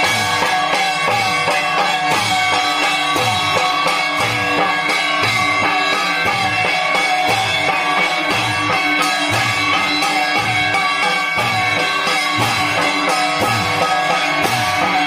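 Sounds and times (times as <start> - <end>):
brass hand cymbals clashing: 0.0 - 15.0
steady drum beat: 0.0 - 15.0
twanging musical bows: 0.0 - 15.0.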